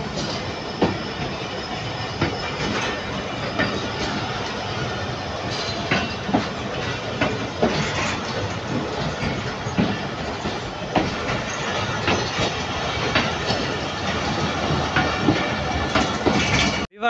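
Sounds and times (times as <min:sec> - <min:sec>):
rumble of train wheels on rail: 0:00.0 - 0:16.9
wheels clacking over rail joints: 0:00.0 - 0:16.9.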